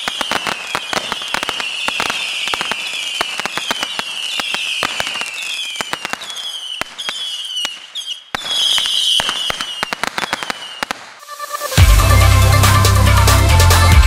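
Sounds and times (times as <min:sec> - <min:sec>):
fireworks popping: 0:00.0 - 0:11.8
whistling rockets: 0:00.0 - 0:11.8.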